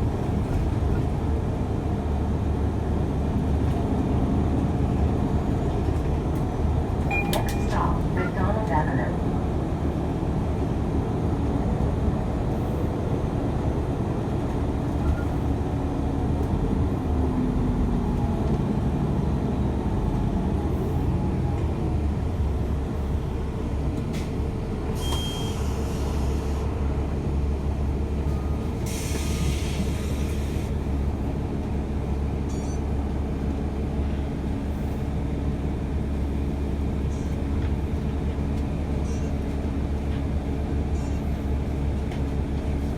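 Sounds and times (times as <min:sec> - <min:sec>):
subway train rumble: 0:00.0 - 0:42.9.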